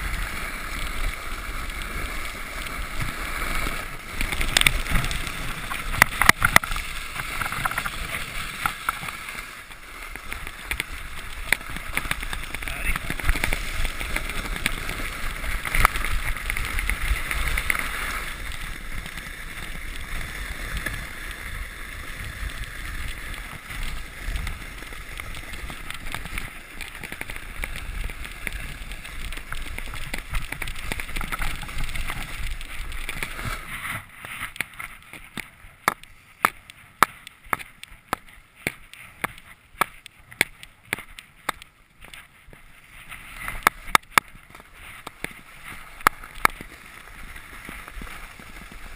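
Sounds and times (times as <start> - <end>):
sled sliding over snow: 0.0 - 48.9.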